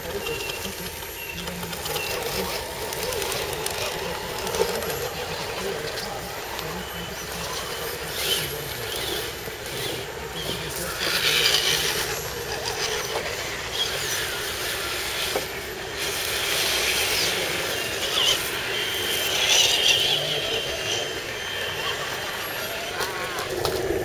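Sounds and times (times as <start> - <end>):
electric motors whining: 0.0 - 24.0.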